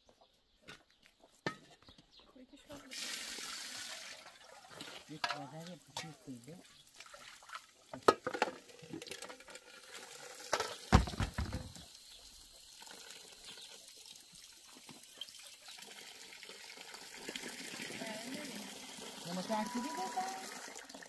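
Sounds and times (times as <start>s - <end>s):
water splashing and running: 2.8s - 21.0s
water trickling: 2.8s - 21.0s.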